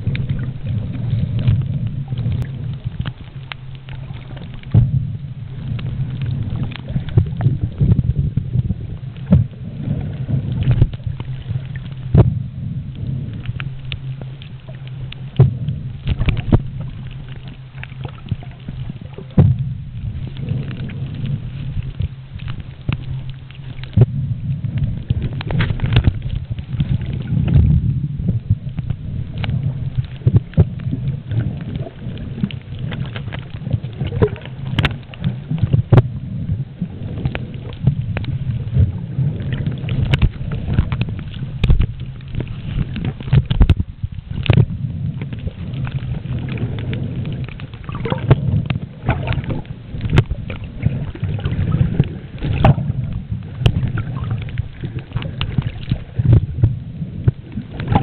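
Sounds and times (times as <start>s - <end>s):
underwater churning water: 0.0s - 58.0s
underwater clicks and crackles: 0.0s - 58.0s.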